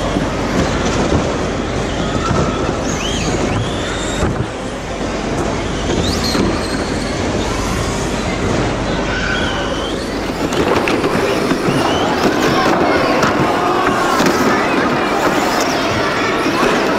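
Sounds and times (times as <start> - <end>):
toy cars rolling rumble: 0.0 - 16.9.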